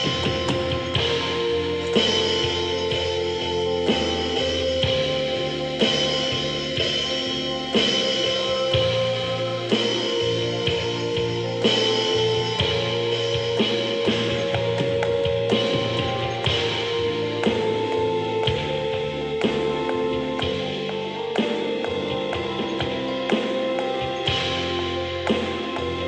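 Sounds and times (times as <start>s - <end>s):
electronic drum beat: 0.0s - 26.0s
held chords: 0.0s - 26.0s.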